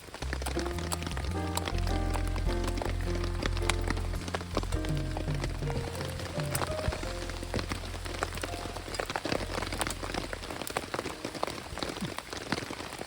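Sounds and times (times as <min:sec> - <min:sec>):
heavy rain patter: 0:00.0 - 0:13.0
soft background music: 0:00.2 - 0:12.3.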